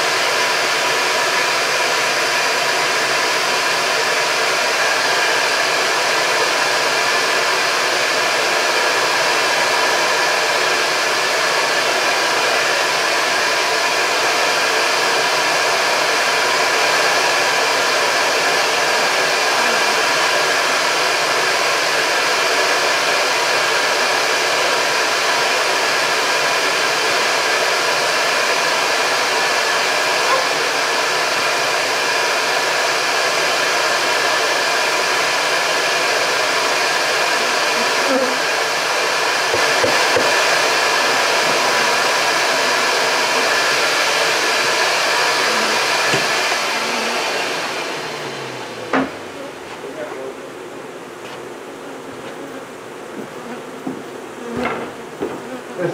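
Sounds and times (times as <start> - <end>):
vacuum motor humming: 0.0 - 55.9.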